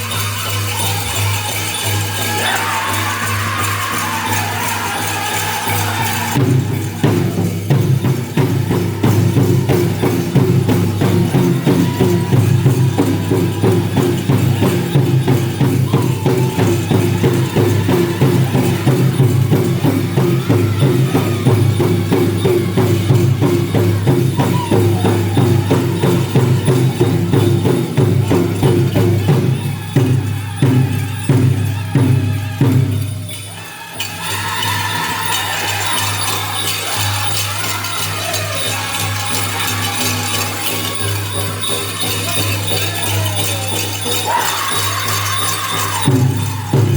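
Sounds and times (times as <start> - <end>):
faint singers' voices: 0.0 - 46.9
jingling bells or rattles: 0.0 - 46.9
big drum beaten fast: 1.2 - 46.9.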